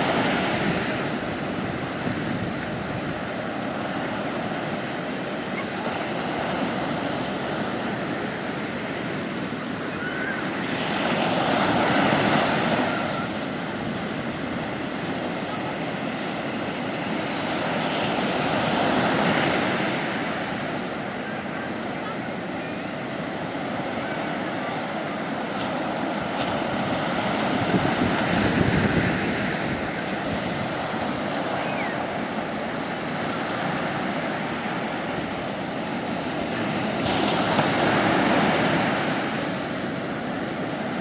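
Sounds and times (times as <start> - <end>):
sea waves breaking on beach: 0.0 - 41.0.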